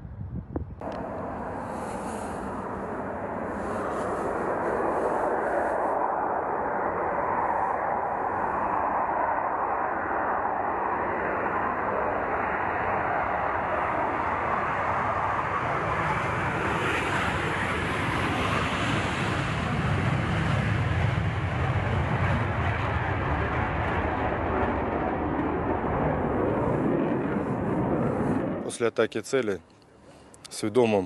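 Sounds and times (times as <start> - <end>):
jet engine roar: 0.8 - 29.4.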